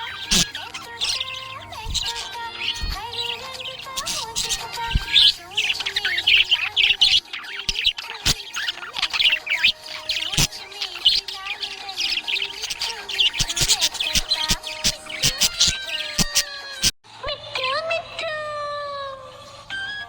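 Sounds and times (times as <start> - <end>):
budgerigars chattering: 0.0 - 16.7
quiet song: 0.0 - 19.7.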